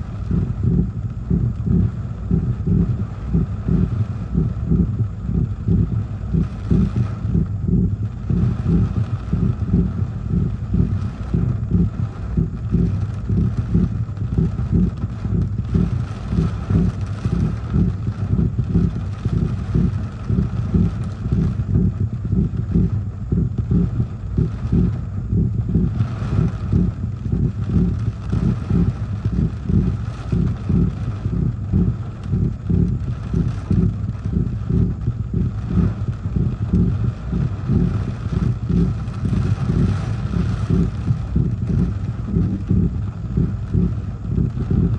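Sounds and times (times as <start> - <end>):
driving rain: 0.0 - 44.9.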